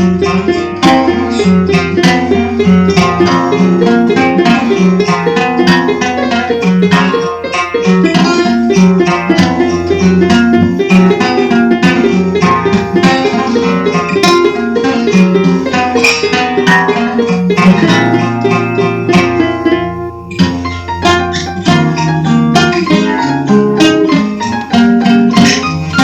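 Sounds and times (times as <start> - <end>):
plucked string notes: 0.0 - 26.0.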